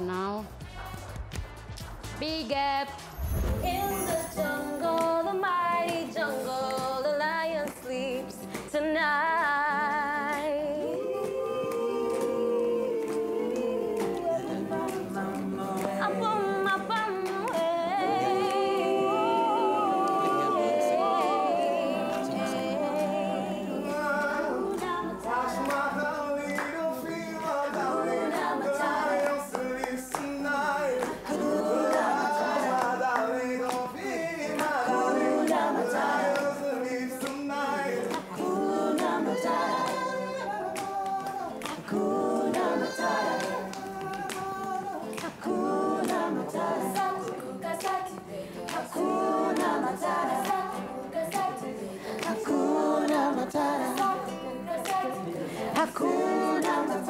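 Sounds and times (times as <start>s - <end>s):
hands clapping: 0.8s - 2.2s, 4.8s - 19.0s, 20.0s - 57.0s
group of voices singing: 3.0s - 57.0s.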